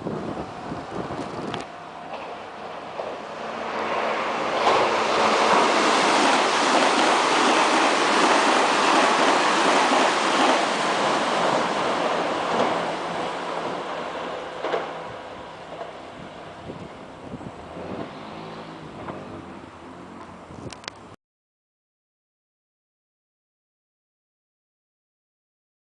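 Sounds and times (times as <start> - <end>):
train wheels roaring on rails: 0.0 - 20.8.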